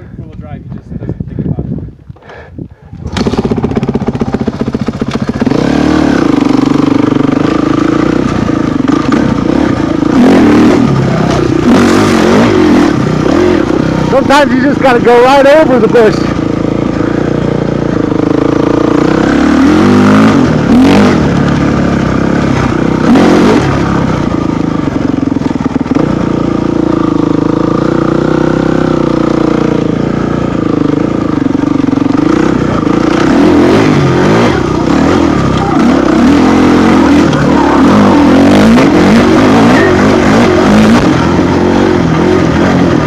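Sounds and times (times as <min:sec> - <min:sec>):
off-road vehicle engine revving: 0:03.1 - 0:43.0.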